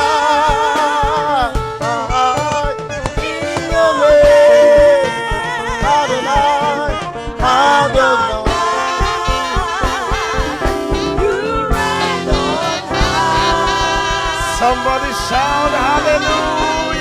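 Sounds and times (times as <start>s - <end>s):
band with steady drum beat: 0.0s - 17.0s
person singing with vibrato: 0.0s - 17.0s.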